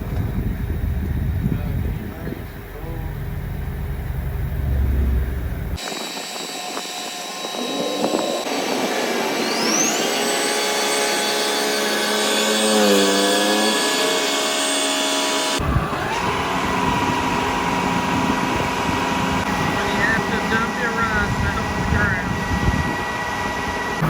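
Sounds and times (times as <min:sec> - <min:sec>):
engine running steady: 0:00.0 - 0:10.1, 0:10.9 - 0:24.0
harvester machinery whine: 0:00.0 - 0:24.0.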